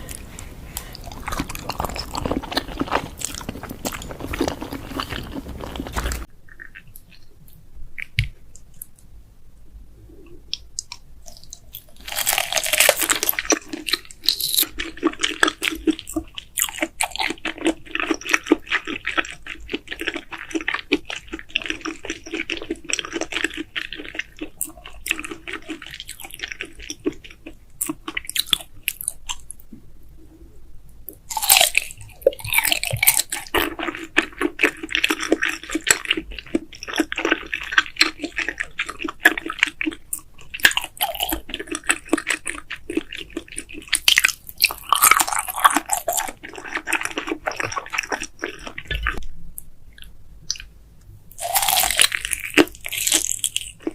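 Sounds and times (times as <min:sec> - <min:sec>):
wet chewing with clicks: 0:00.0 - 0:09.1, 0:10.4 - 0:29.8, 0:31.0 - 0:53.9.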